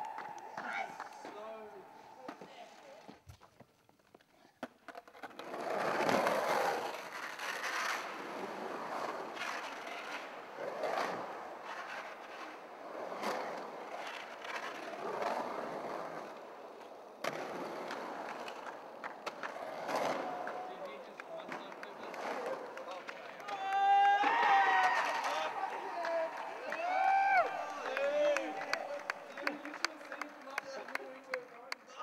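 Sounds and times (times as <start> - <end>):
skateboard wheels rolling on concrete: 0.0 - 32.0.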